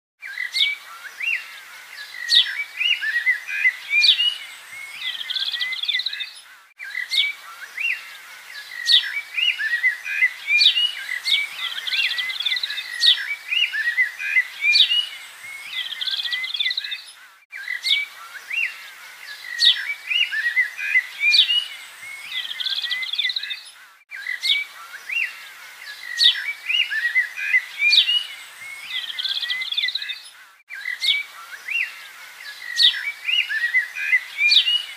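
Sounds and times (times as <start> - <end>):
birds chirping and twittering: 0.2 - 34.9.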